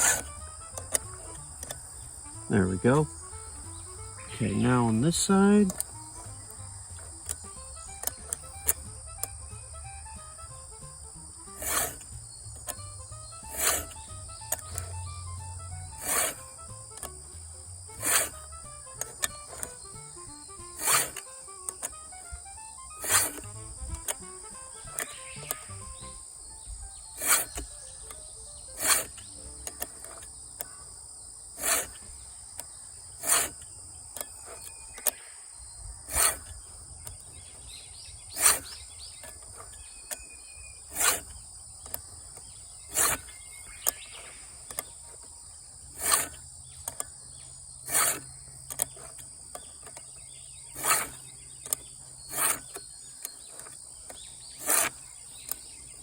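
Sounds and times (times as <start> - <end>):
file rasping on chainsaw chain: 0.0 - 56.0
high insect buzzing: 0.0 - 56.0.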